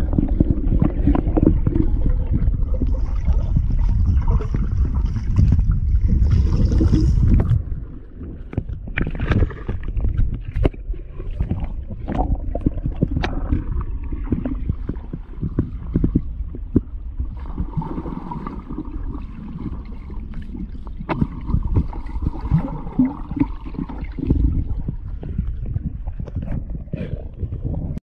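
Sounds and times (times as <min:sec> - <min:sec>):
dog paddling underwater: 0:00.0 - 0:28.0.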